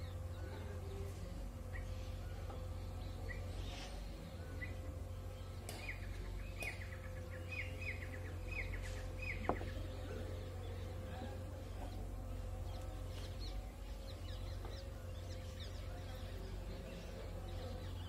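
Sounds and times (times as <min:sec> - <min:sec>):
small birds chirping: 0:00.0 - 0:18.0
steady low hum: 0:00.0 - 0:18.0.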